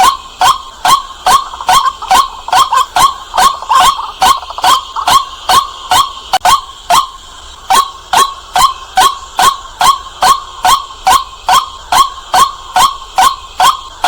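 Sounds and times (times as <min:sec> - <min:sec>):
waterhen calling harsh notes: 0:00.0 - 0:14.0.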